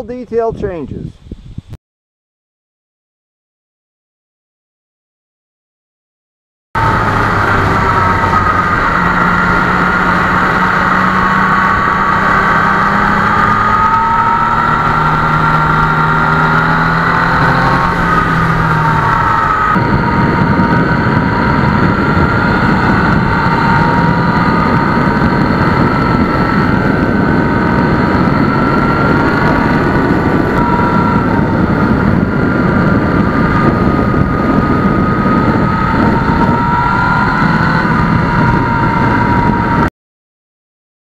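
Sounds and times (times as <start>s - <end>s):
wind noise on microphone: 0.0s - 1.8s, 6.8s - 39.9s
motorcycle engine running: 6.8s - 39.9s.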